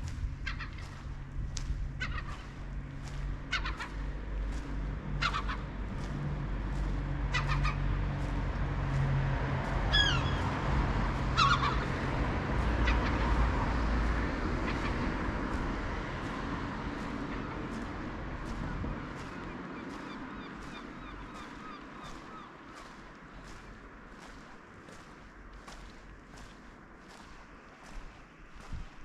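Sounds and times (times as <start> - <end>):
steady low rumble: 0.0 - 29.0
gulls calling: 0.4 - 28.0.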